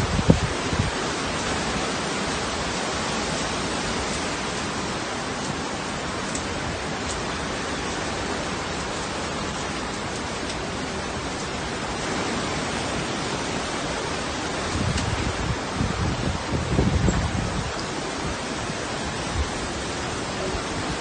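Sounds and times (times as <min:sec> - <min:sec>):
heavy rain hissing: 0:00.0 - 0:21.0
wind: 0:00.0 - 0:21.0
wind buffeting microphone: 0:00.0 - 0:21.0.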